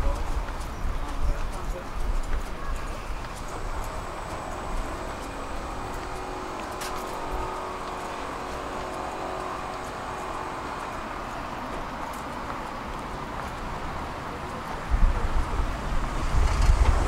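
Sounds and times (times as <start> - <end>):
tram whine: 0.0 - 17.0
wheels rumbling on rails: 0.0 - 17.0.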